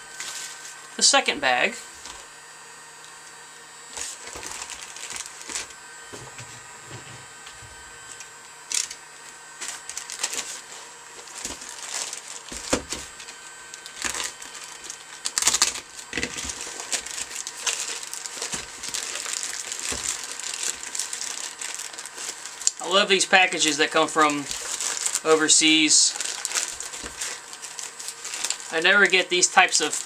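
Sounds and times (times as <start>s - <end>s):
plastic bag crinkling and rustling: 3.9s - 9.0s, 9.6s - 30.0s.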